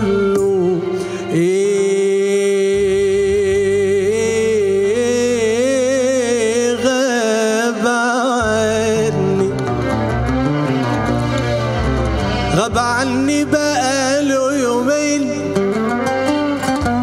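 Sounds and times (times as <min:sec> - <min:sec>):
man singing with vibrato: 0:00.0 - 0:10.1, 0:12.4 - 0:16.2
band accompaniment: 0:00.0 - 0:17.0.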